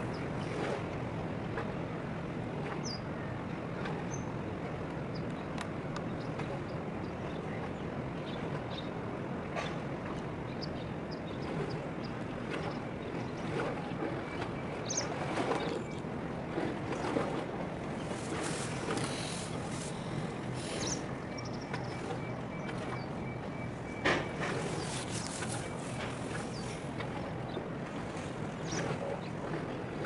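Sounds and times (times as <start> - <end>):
ship low rumble: 0.0 - 30.0.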